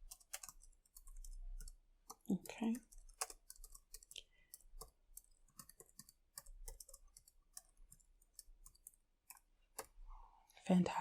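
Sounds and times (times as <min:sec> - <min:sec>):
keyboard typing: 0:00.0 - 0:10.0.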